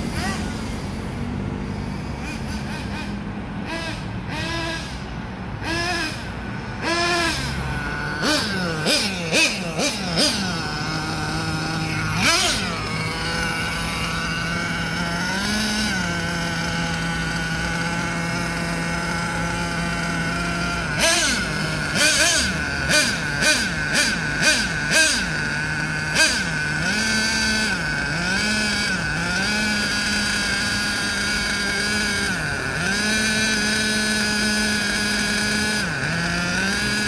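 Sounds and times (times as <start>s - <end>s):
model car engine revving: 0.0s - 37.0s.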